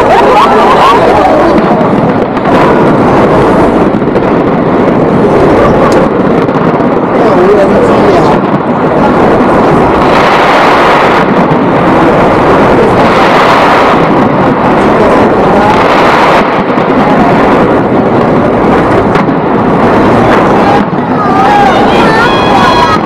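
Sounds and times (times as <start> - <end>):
fireworks barrage: 0.0 - 23.0.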